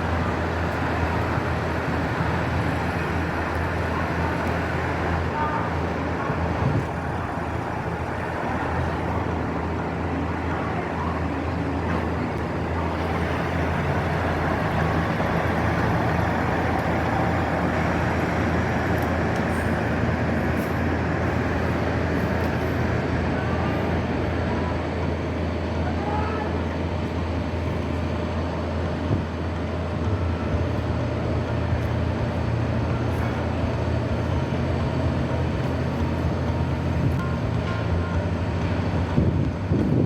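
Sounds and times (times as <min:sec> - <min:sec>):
diesel railcar drone: 0:00.0 - 0:40.0.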